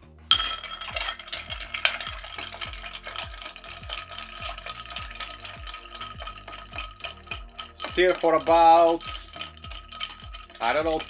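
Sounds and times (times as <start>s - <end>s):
spoon stirring ice cubes: 0.3s - 11.0s.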